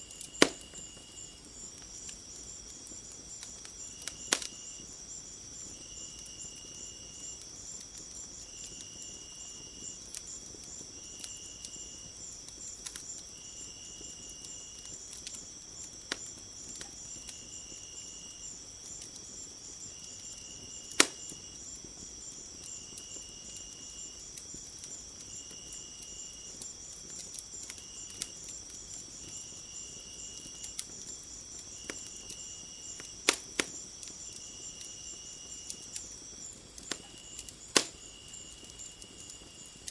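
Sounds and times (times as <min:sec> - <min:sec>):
crickets trilling: 0:00.0 - 0:39.9
wood fire crackling pops: 0:00.0 - 0:39.9.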